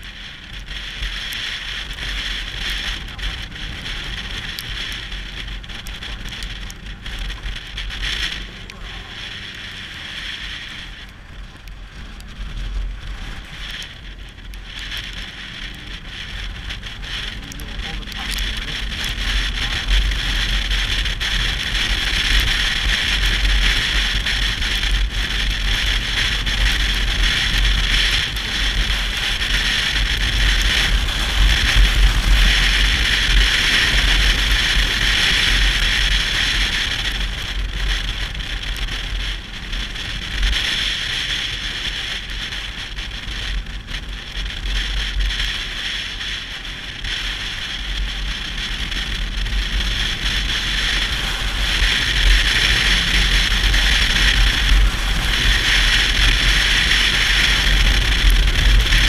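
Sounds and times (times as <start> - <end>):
motorcycle engine and road rumble: 0.0 - 59.0
wind rushing over microphone: 0.0 - 59.0.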